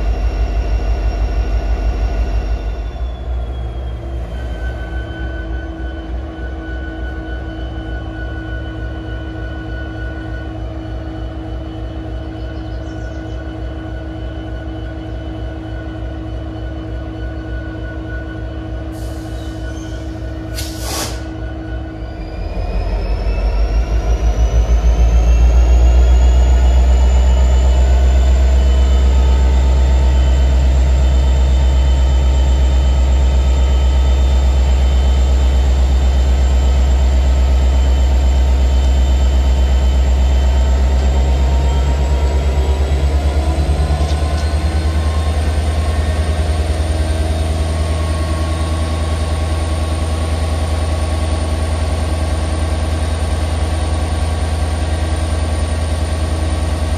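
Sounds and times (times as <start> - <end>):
engine whine: 0.0 - 56.9
locomotive engine throbbing: 0.0 - 56.9.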